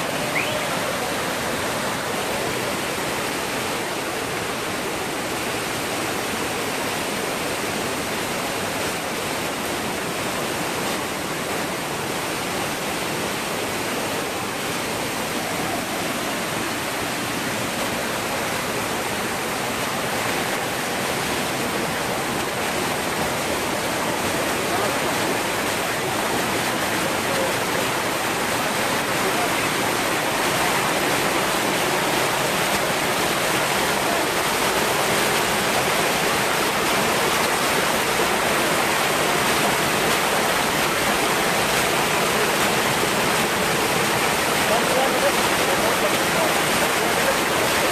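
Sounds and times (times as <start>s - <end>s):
waterfall rushing over rock: 0.0s - 47.9s.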